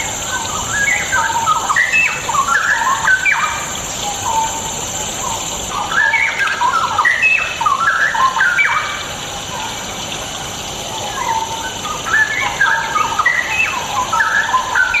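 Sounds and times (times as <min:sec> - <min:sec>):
bird singing bubbly phrases: 0:00.0 - 0:15.0.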